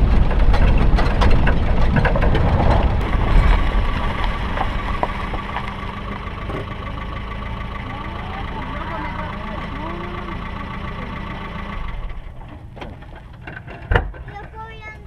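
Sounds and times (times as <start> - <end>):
engine idling: 0.0 - 15.0
engine rumbling with knocks: 0.0 - 15.0.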